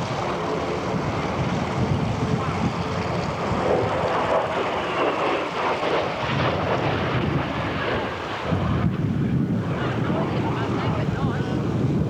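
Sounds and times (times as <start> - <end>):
propeller aircraft engine: 0.0 - 12.0.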